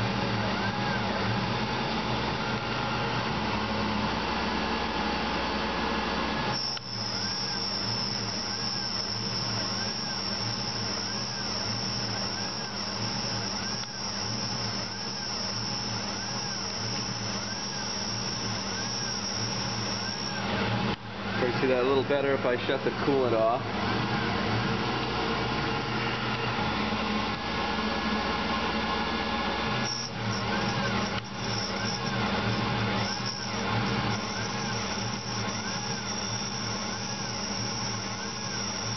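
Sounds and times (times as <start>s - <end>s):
milling machine whining: 0.0s - 38.9s
steady high whine: 0.0s - 38.9s.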